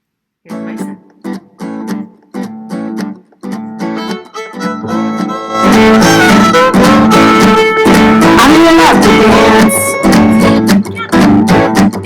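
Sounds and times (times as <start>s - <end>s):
strummed guitar chords: 0.5s - 12.0s.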